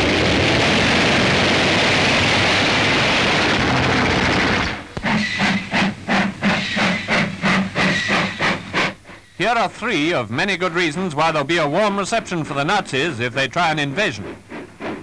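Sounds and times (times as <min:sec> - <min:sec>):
rush of steam: 0:00.0 - 0:15.0
steam train chuffing: 0:00.0 - 0:15.0.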